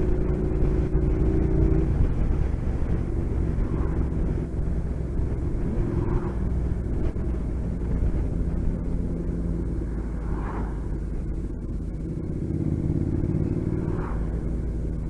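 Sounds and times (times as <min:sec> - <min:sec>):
motorcycle engine running: 0:00.0 - 0:15.0
wind and road rumble: 0:00.0 - 0:15.0.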